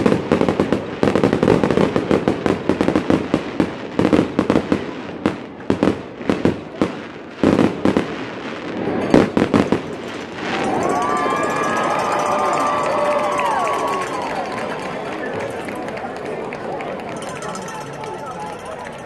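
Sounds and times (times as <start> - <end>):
fireworks banging and crackling: 0.0 - 19.0.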